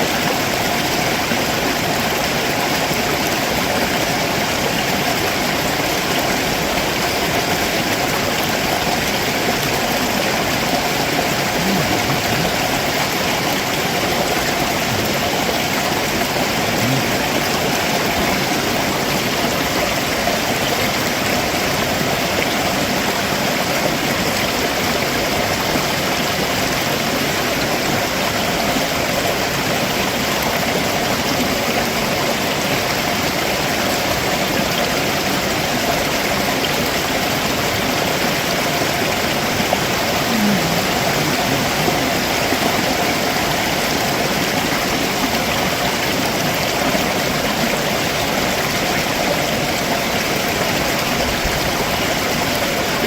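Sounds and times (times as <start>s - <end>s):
stream water running over rocks: 0.0s - 53.0s.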